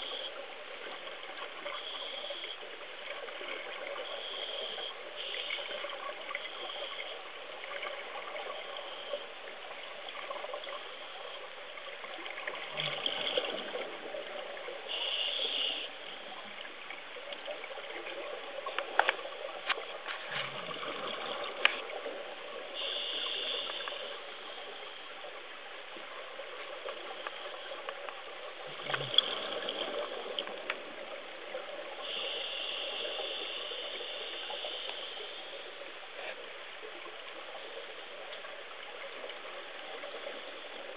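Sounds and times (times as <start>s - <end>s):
underwater water wash: 0.0s - 40.9s.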